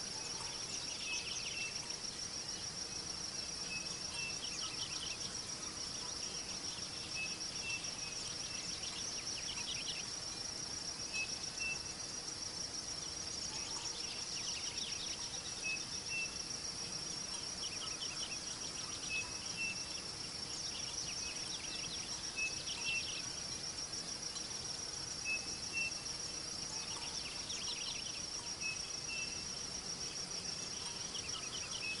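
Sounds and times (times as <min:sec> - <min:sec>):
cricket high-pitched trill: 0:00.0 - 0:32.0
insects rapid chirps: 0:00.0 - 0:32.0.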